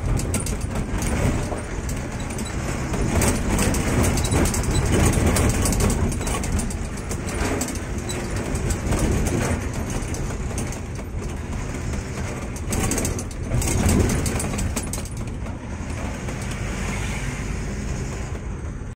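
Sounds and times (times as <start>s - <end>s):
cab rattling: 0.0s - 16.9s
road noise: 0.0s - 18.9s
truck engine rumbling: 0.0s - 18.9s.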